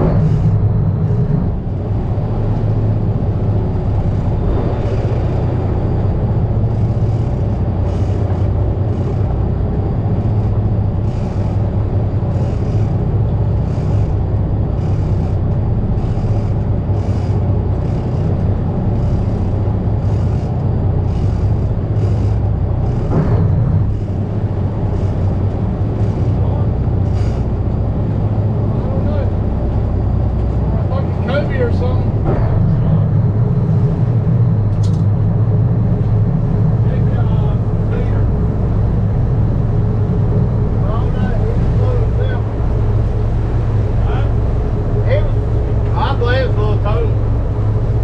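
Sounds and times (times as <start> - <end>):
boat engine droning: 0.0 - 48.0.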